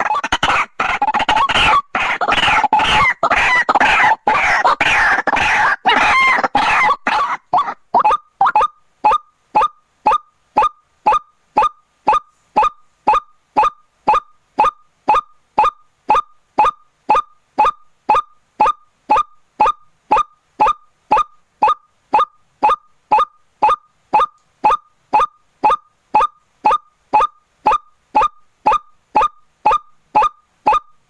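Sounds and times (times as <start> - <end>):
waterhen calling: 0.0 - 31.0.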